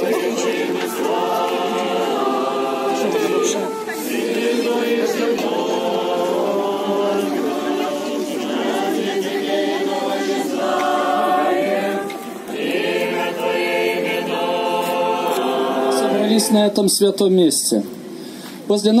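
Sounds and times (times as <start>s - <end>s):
choir chanting unaccompanied: 0.0s - 16.9s.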